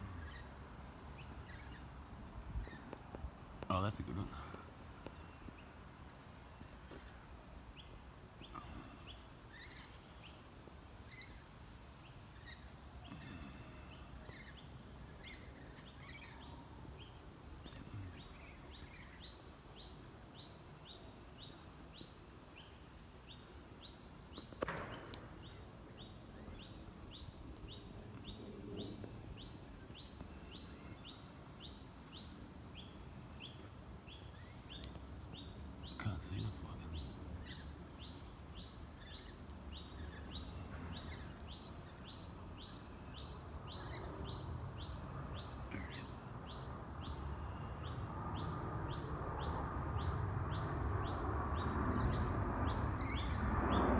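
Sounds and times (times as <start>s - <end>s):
birds chirping faintly: 0.0s - 53.9s.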